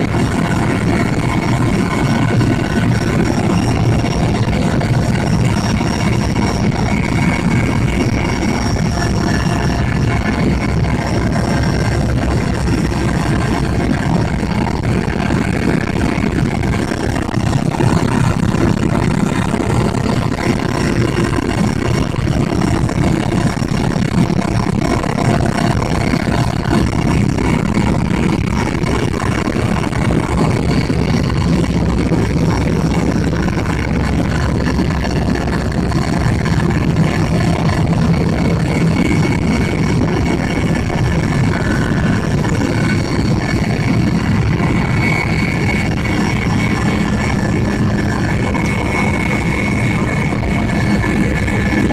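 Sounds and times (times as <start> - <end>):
helicopter engine and rotor drone: 0.0 - 51.9
high turbine whine: 0.0 - 51.9.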